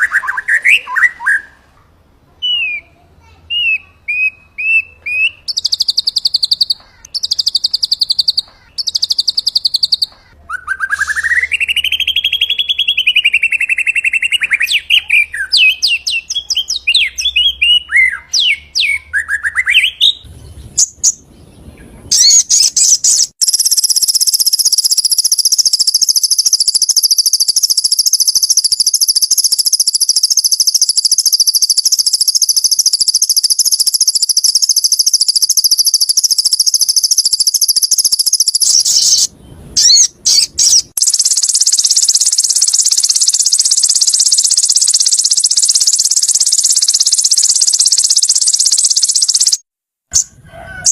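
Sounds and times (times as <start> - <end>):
bird song: 0.0 - 1.6, 2.4 - 50.9.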